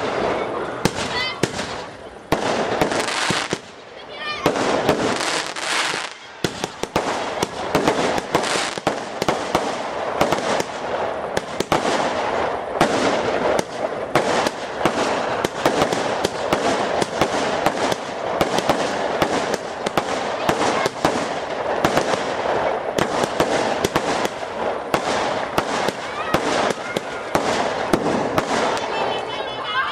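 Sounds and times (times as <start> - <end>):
fireworks bangs and crackling: 0.0 - 29.9
steady hiss: 0.0 - 29.9.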